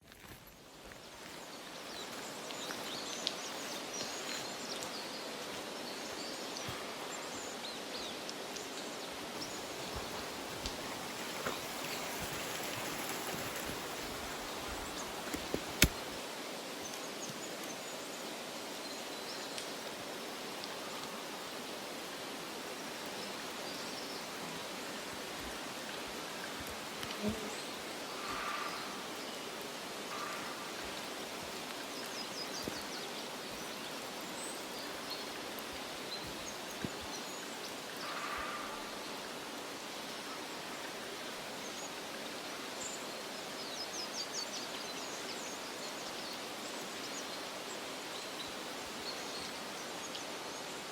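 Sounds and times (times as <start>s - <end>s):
rushing hiss of outdoor ambience: 0.0s - 50.9s.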